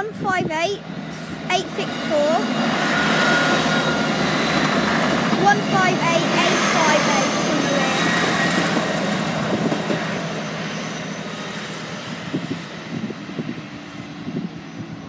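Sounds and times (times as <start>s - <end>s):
diesel train rumble and rail noise: 0.0s - 15.0s.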